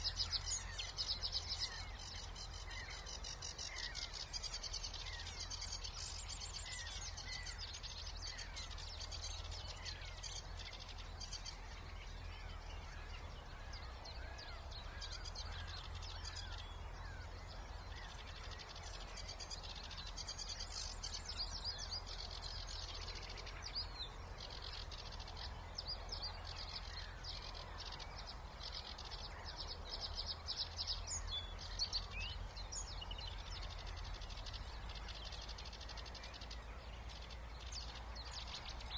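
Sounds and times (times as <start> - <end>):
birds singing: 0.0 - 38.9.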